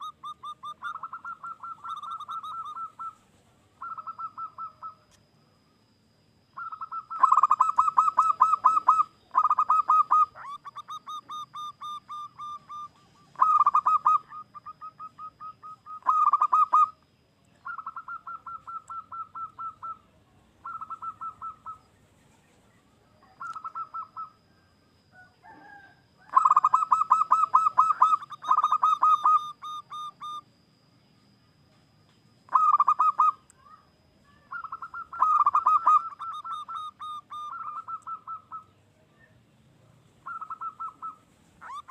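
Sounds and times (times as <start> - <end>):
dove cooing: 0.0 - 5.1, 6.5 - 17.0, 17.6 - 22.0, 23.0 - 30.6, 32.5 - 38.8, 40.2 - 41.9.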